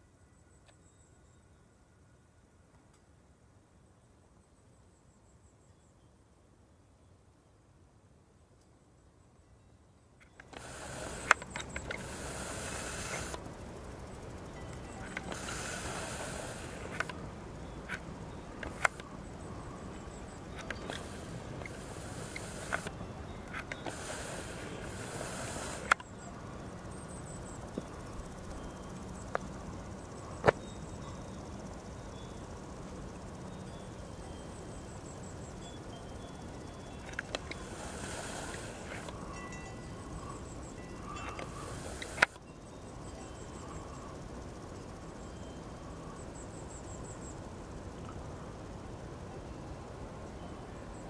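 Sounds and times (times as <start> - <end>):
insects chirping: 0.0 - 2.6, 10.2 - 51.0
faint outdoor hiss: 0.0 - 51.0.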